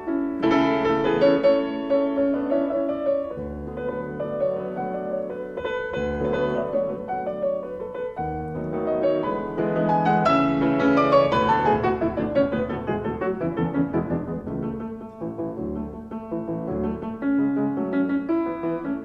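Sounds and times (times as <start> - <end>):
slow piano piece: 0.0 - 19.0.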